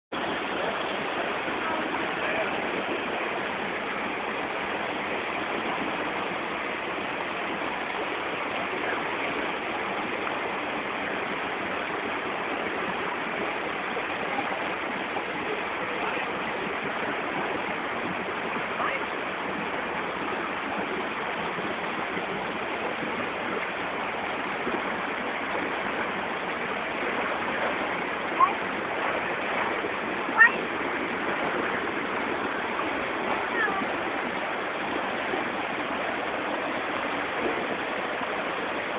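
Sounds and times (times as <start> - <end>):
waterfall rushing: 0.2 - 38.9.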